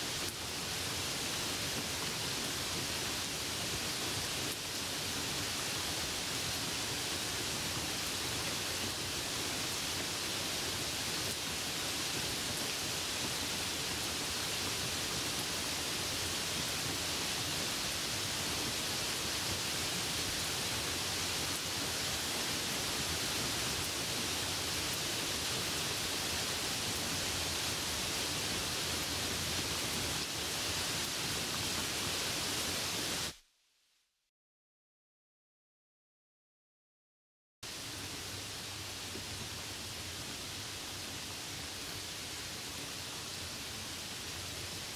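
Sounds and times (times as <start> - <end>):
rain falling steadily: 0.0 - 33.4, 37.6 - 44.9.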